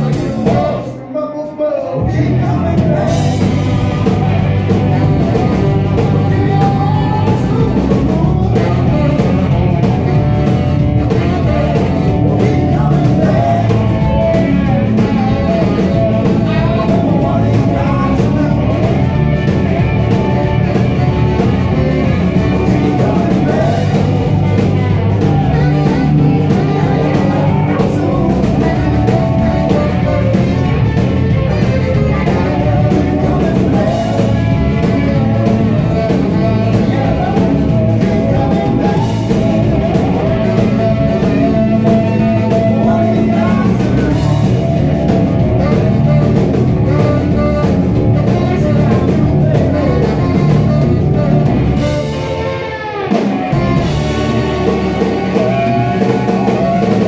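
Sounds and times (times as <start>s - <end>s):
blues-rock band playing: 0.0s - 57.0s
saxophone: 0.0s - 57.0s.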